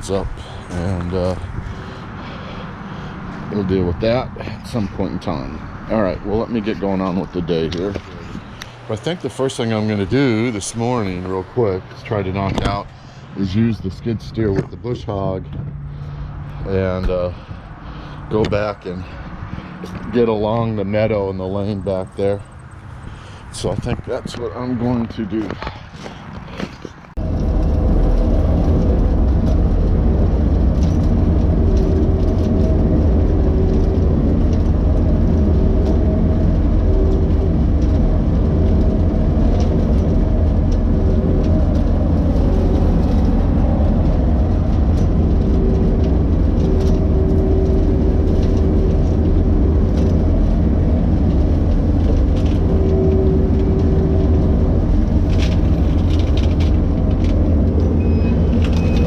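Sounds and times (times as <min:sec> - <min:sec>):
skid steer engine drone: 0:00.0 - 0:26.1, 0:27.2 - 0:59.0.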